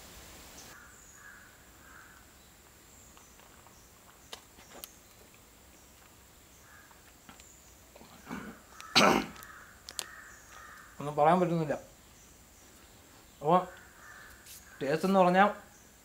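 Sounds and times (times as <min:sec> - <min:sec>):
distant birds chirping: 0:00.0 - 0:16.0.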